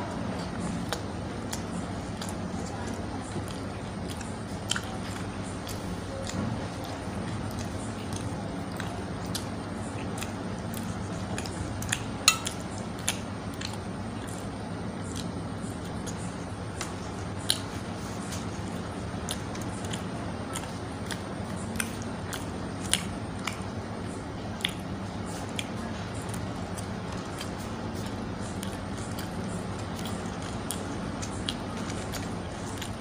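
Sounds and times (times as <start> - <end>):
chewing and tearing bread: 0.0 - 33.0
steady low hum: 0.0 - 33.0.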